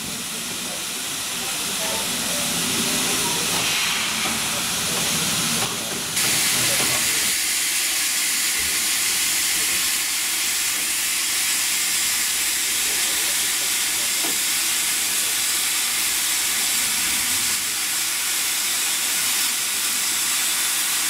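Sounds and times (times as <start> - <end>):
locomotive steam hiss: 0.0 - 21.0.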